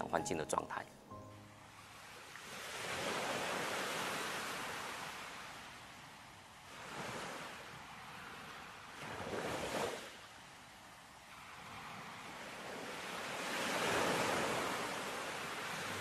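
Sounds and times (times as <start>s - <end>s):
sea waves washing in: 1.5s - 16.0s.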